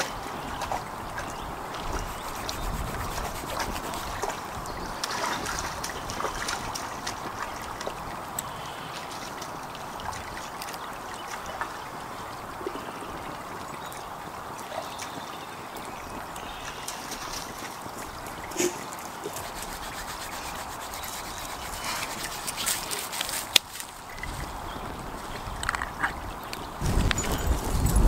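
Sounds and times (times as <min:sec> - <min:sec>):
stream trickling: 0:00.0 - 0:28.0.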